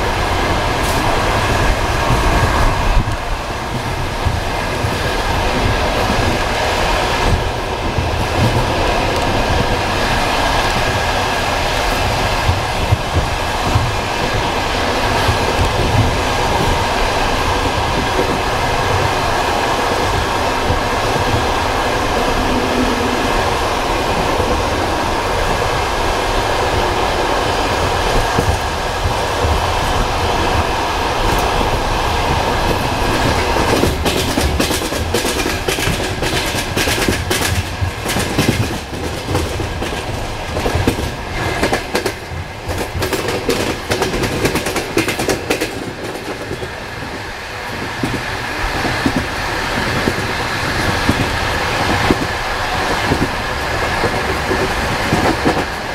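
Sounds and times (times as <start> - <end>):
train wheels clacking over rail joints: 0.0 - 27.0, 27.6 - 55.9.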